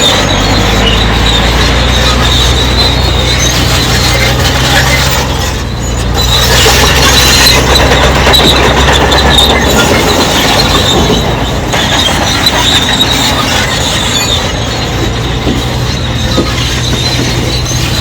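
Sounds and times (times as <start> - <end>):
bulldozer engine hum: 0.0 - 18.0
tracks squealing and clanking: 0.0 - 18.0.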